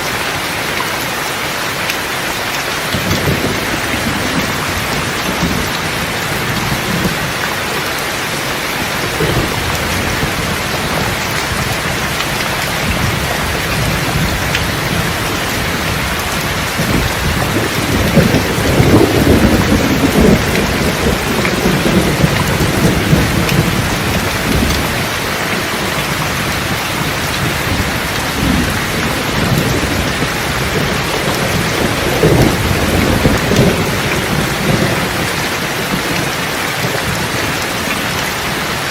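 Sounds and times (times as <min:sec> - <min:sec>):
heavy rain: 0:00.0 - 0:38.9
rolling thunder: 0:02.9 - 0:07.4, 0:08.4 - 0:38.2.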